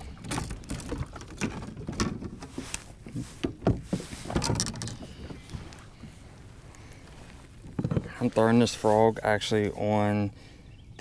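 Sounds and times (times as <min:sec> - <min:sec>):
rod scraping against boat: 0:00.3 - 0:09.8.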